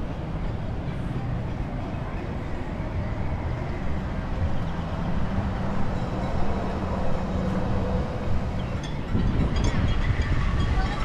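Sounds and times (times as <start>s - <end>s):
low rumble of road traffic: 0.0s - 11.0s
passing vehicle engine hum: 0.0s - 11.0s.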